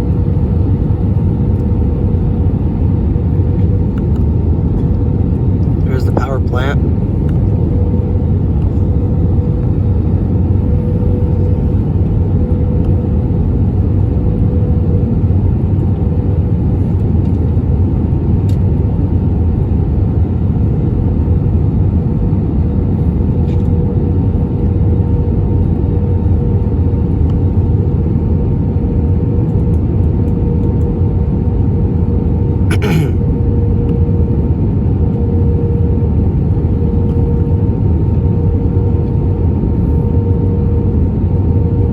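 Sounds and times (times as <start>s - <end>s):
airplane cabin rumble: 0.0s - 41.9s
steady humming tone: 0.0s - 41.9s.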